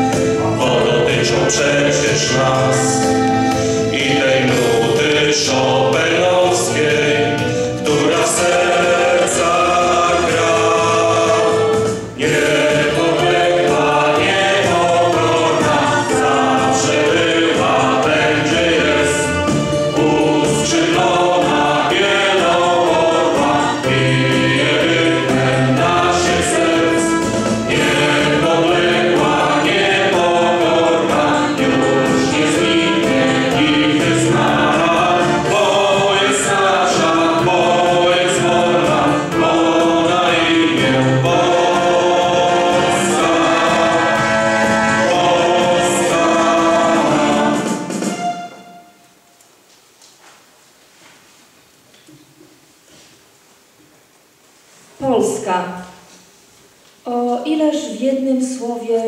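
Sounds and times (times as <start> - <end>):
women's choir singing in harmony: 0.0 - 49.2.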